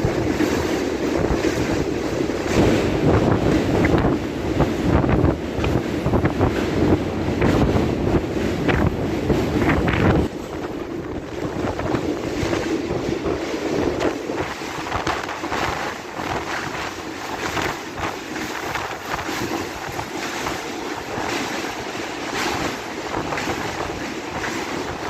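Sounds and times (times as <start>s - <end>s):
train rattling: 0.0s - 25.0s
train running on rails: 0.0s - 25.0s
wind buffeting microphone: 0.0s - 25.0s.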